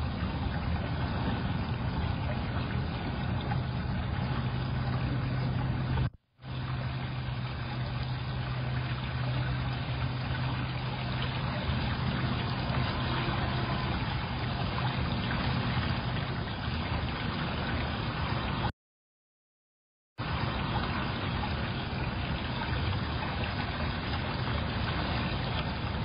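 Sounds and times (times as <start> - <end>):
constant low hum: 0.0 - 18.7, 20.2 - 26.0.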